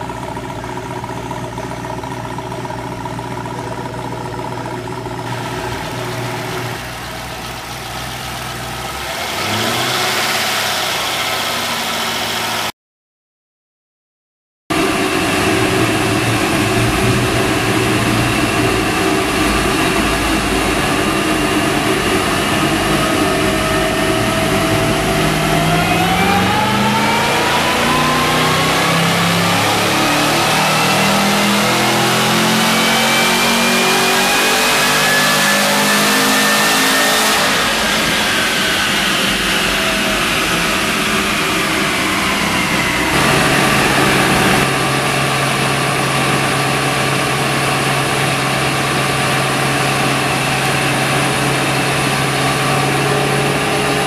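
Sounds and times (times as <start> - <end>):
car engine on dyno: 0.0 - 12.7, 14.7 - 54.0
supercharger whine: 0.0 - 12.7, 14.7 - 54.0.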